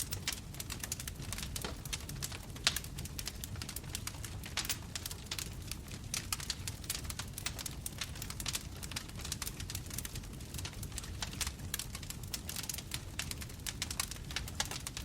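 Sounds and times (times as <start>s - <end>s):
low rumble of flames: 0.0s - 15.0s.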